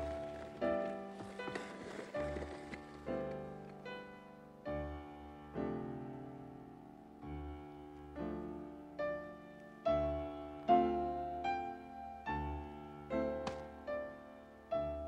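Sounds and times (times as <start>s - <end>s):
soft piano melody: 0.0s - 15.0s.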